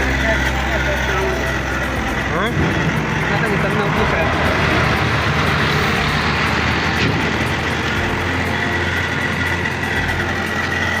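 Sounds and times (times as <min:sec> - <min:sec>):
machinery drone: 0:00.0 - 0:11.0
thin high whine: 0:00.0 - 0:11.0.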